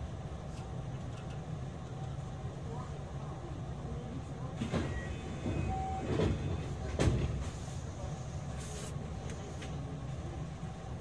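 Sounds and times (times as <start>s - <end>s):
wheels rumbling on rails: 0.0s - 11.0s.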